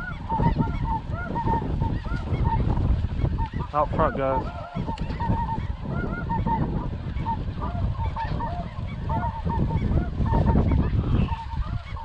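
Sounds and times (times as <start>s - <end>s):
geese calling: 0.0s - 12.0s.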